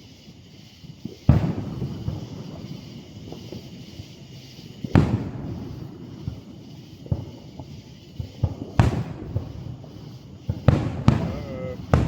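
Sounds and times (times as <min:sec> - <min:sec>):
fireworks popping: 0:00.0 - 0:12.0
fireworks booming: 0:01.0 - 0:12.0.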